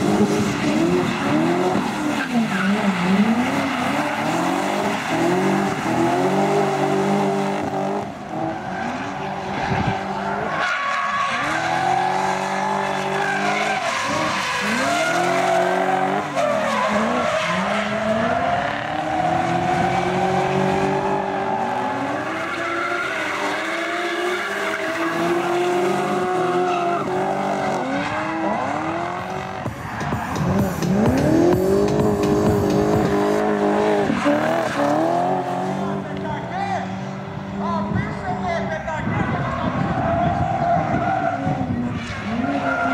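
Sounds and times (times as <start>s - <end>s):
car engine revving hard: 0.0s - 9.8s, 11.3s - 36.3s
tyres skidding and squealing: 0.0s - 42.9s.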